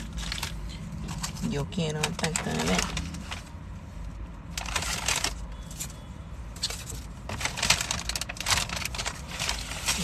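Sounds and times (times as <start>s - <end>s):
paper bag rustling and crinkling: 0.0s - 6.0s, 6.6s - 10.0s.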